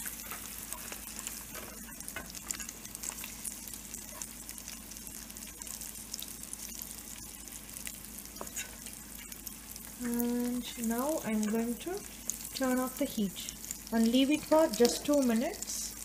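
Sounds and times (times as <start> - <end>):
eggs sizzling in oil: 0.0 - 16.0.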